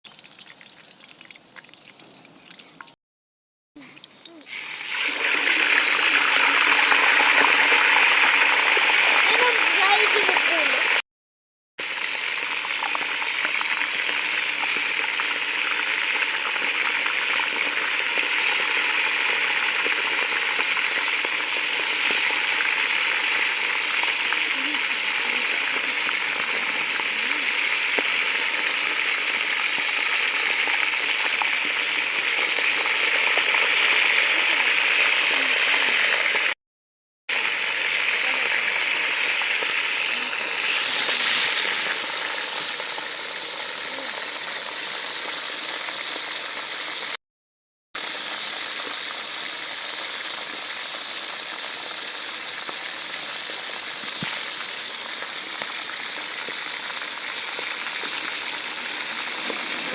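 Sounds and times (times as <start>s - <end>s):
food sizzling in hot oil: 0.1s - 3.0s, 3.8s - 11.0s, 11.8s - 36.6s, 37.3s - 47.2s, 48.0s - 59.9s.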